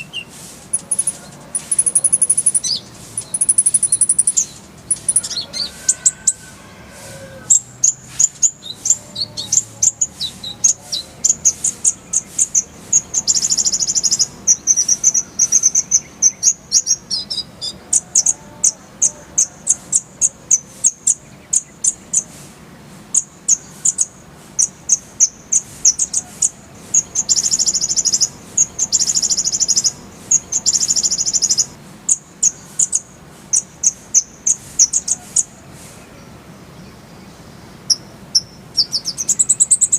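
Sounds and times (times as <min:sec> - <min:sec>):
bird chirping and trilling: 0:00.0 - 0:22.4, 0:23.1 - 0:36.2, 0:37.3 - 0:39.9.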